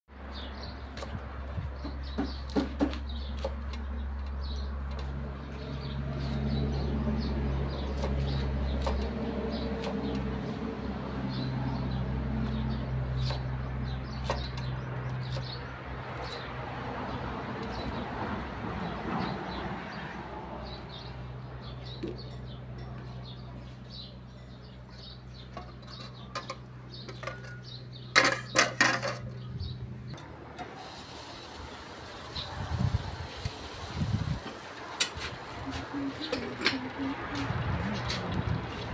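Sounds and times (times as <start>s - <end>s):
birds chirping: 0.2s - 18.2s, 18.8s - 30.2s, 31.4s - 38.9s.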